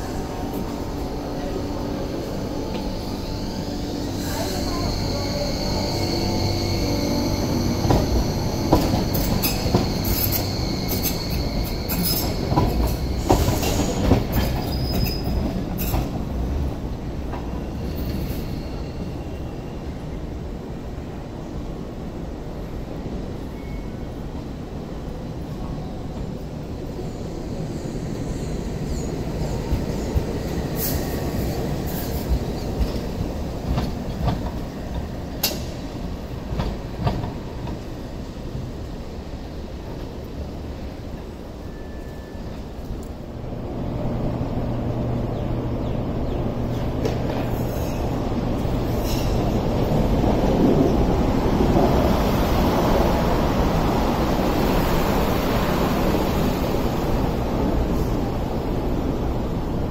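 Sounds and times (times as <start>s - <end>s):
electric train passing: 0.0s - 59.9s
light rail car rumbling: 0.0s - 59.9s.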